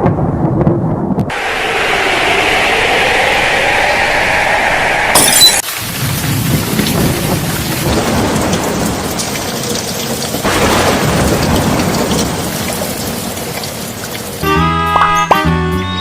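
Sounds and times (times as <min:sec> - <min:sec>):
thunder rumbling: 0:00.0 - 0:14.4
heavy rain: 0:01.3 - 0:14.6.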